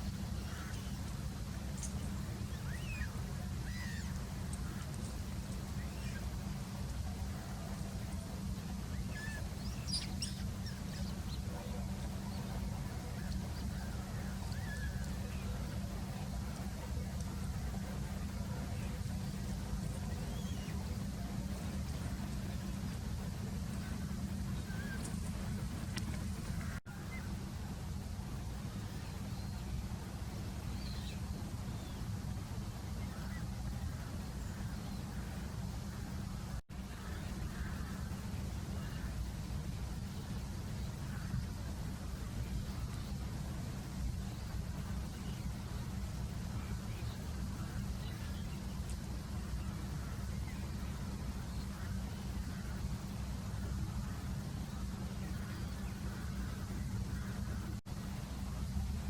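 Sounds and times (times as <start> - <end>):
small birds chirping: 0.0 - 27.8, 28.5 - 58.4
steady low rumble: 0.0 - 59.0.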